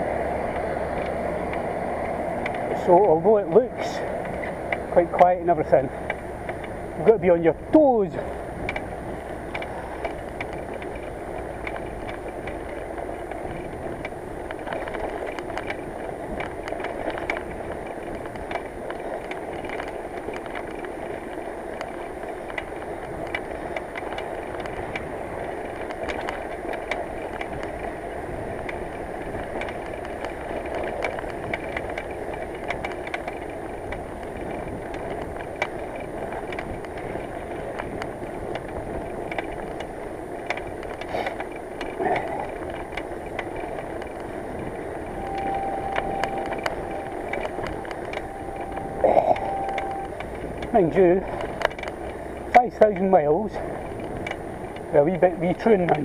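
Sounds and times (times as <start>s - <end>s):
bike clicks and rattles: 0.0s - 45.2s, 46.0s - 56.0s
bicycle tyres rolling on road: 0.0s - 56.0s.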